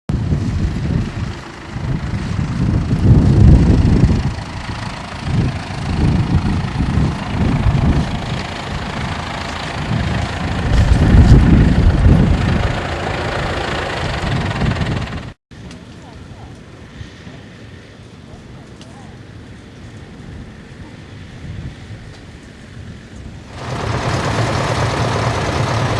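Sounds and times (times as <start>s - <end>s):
tractor engine rumbling: 0.1s - 21.4s, 22.3s - 25.9s.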